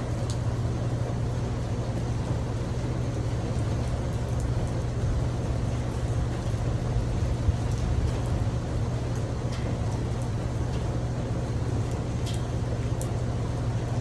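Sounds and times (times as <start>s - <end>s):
rain on a tin roof: 0.0s - 14.0s
steady low hum: 0.0s - 14.0s.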